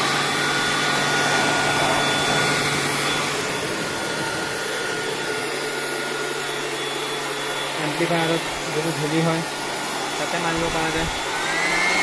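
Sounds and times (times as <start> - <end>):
electric air blower running: 0.0 - 12.0.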